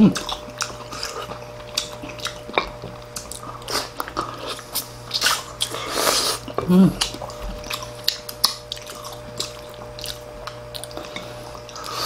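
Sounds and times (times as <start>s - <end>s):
people biting and chewing: 0.0s - 12.0s.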